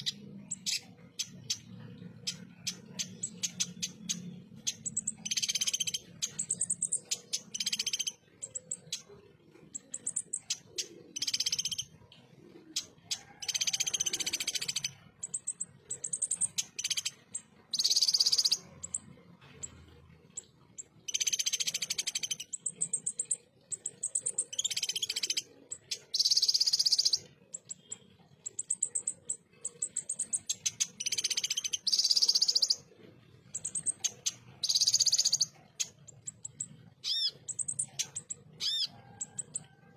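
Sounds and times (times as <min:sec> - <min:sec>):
sunbird singing: 0:00.0 - 0:39.8.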